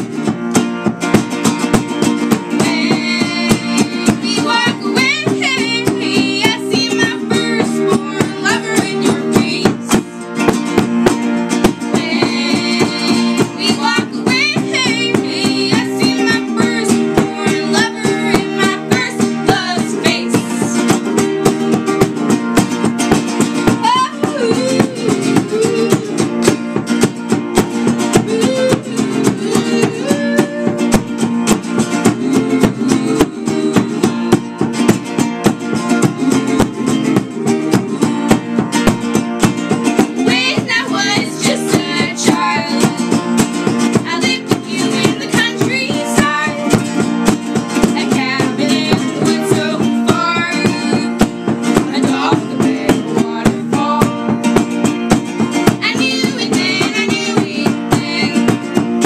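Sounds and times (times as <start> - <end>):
acoustic guitars strumming: 0.0 - 59.0
women singing: 2.1 - 10.3, 11.6 - 22.2, 23.2 - 55.0, 55.6 - 59.0.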